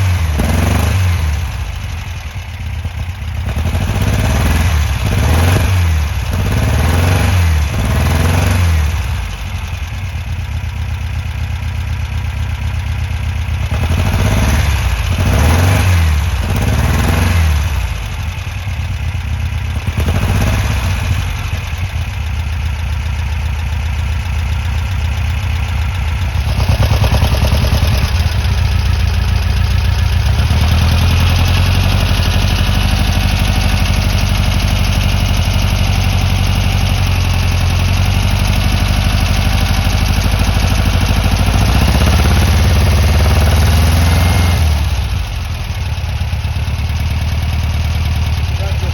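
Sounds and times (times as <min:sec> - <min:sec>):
engine revving and idling: 0:00.0 - 0:48.9.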